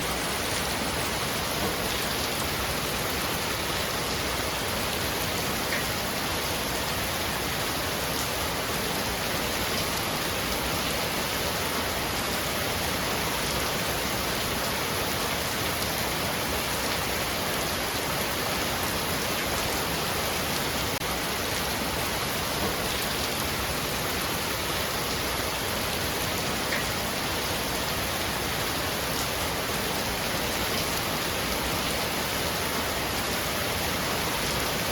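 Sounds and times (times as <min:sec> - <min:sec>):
heavy rain on a roof: 0:00.0 - 0:34.9.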